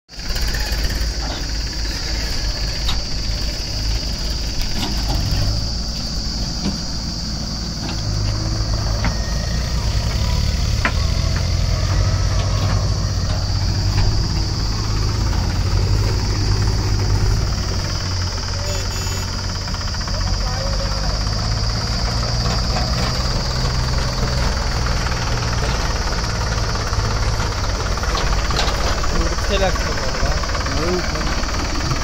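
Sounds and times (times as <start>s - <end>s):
diesel engines rumbling: 0.1s - 32.0s.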